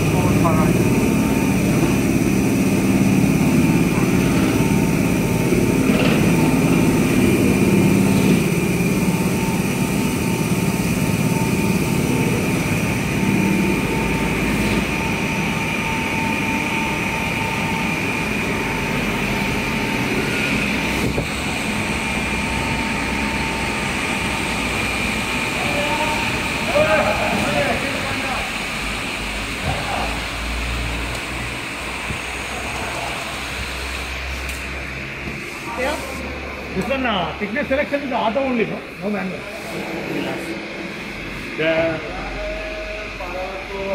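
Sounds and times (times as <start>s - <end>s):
production machine whining and rumbling: 0.0s - 43.9s.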